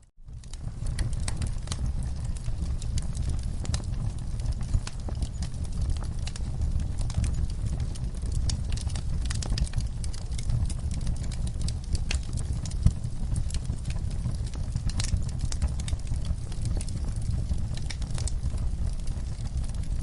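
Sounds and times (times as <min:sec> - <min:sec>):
low rumble of flame: 0:00.0 - 0:20.0
fire pops and snaps: 0:00.2 - 0:20.0.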